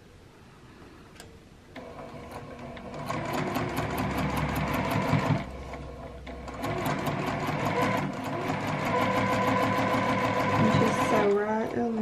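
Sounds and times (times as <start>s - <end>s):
sewing machine running: 1.8s - 12.0s.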